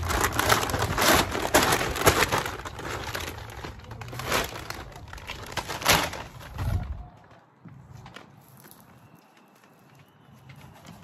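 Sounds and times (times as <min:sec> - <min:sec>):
paper bag crinkling and rustling: 0:00.0 - 0:11.0.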